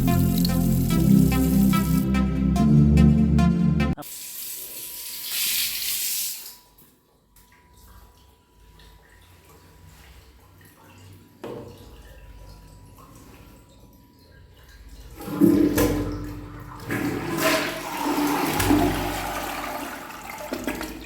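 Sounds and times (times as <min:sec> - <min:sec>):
water running: 0:00.0 - 0:02.2, 0:03.9 - 0:21.0.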